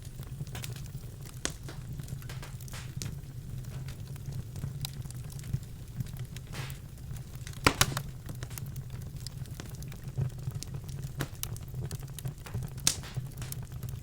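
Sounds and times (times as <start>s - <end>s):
logs crackling in fireplace: 0.0s - 14.0s.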